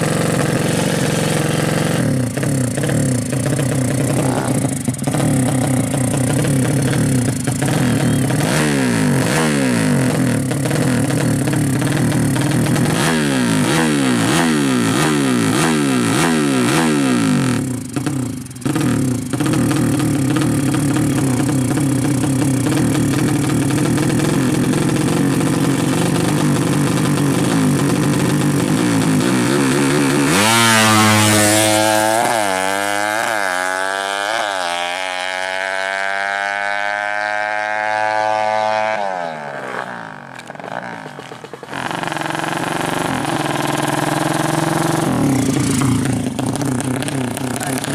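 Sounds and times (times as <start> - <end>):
motorcycle shifting gears: 0.0 - 47.9
racing motorcycle engines revving: 0.0 - 47.9.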